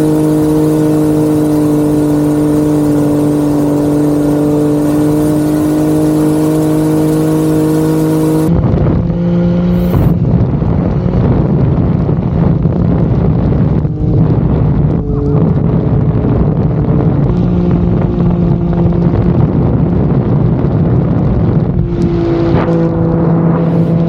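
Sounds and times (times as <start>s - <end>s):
race boat engine running: 0.0s - 11.2s, 11.8s - 24.0s.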